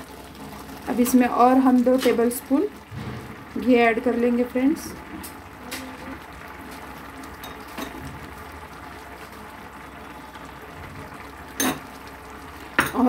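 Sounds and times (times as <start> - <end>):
milk frying and bubbling in pot: 0.0 - 13.0.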